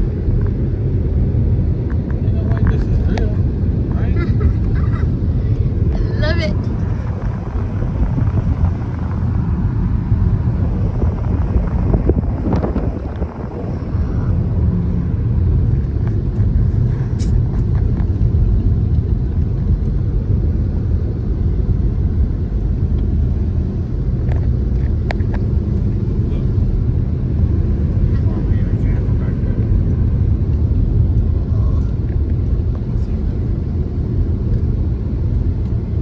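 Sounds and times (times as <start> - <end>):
car interior engine and road noise: 0.0 - 36.0.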